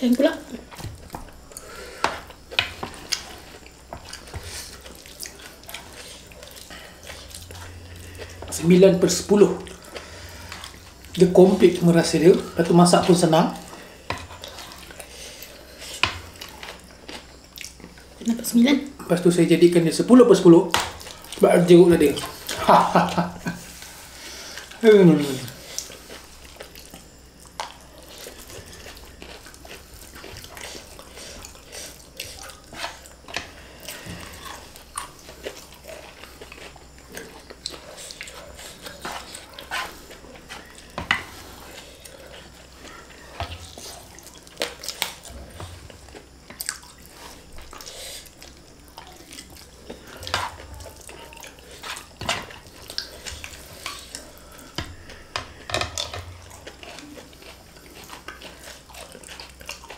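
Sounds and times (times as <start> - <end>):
wet chewing and smacking: 0.6 - 18.3, 20.7 - 24.8, 25.5 - 59.9.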